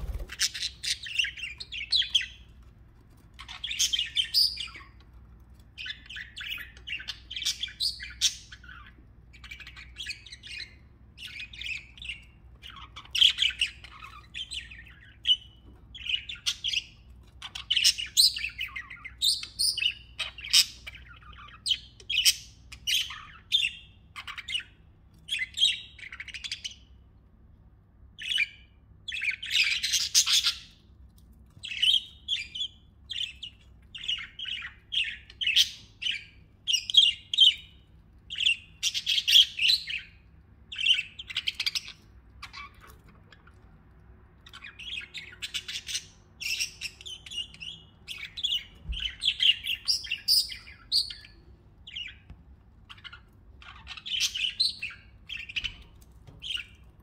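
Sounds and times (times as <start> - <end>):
budgerigars chirping and warbling: 0.0 - 27.0, 27.8 - 57.0.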